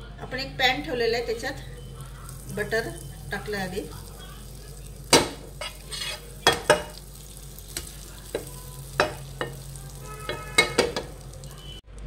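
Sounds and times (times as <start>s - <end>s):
butter sizzling in a frying pan: 1.3s - 11.8s.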